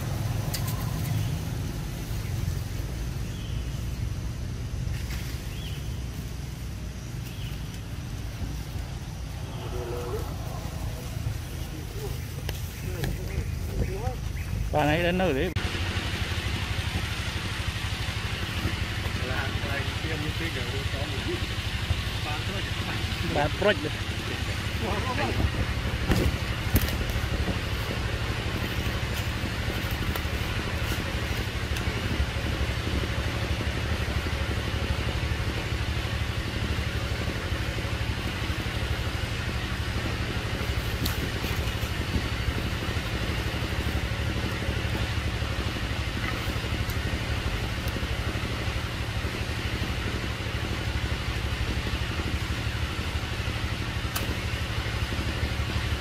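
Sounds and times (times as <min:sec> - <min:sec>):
low droning hum: 0:00.0 - 0:56.0.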